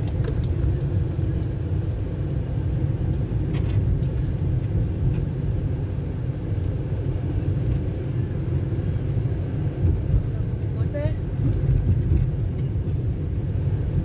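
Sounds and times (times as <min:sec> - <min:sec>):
car engine rumble from inside: 0:00.0 - 0:14.0
tyre noise on paved road: 0:00.0 - 0:14.0.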